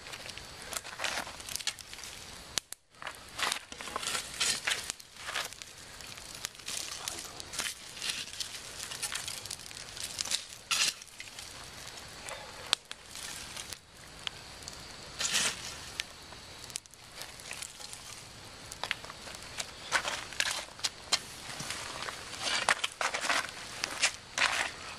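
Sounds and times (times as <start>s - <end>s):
coals tipped onto gravel: 0.0s - 24.9s
fire crackling: 0.0s - 24.9s
metal shovel scraping coals: 0.0s - 24.9s.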